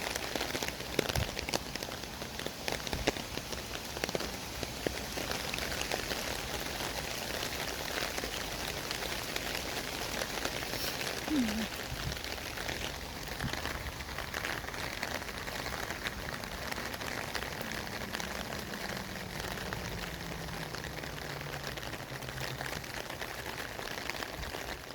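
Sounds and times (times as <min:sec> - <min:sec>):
crackly hiss of wet road: 0:00.0 - 0:24.9.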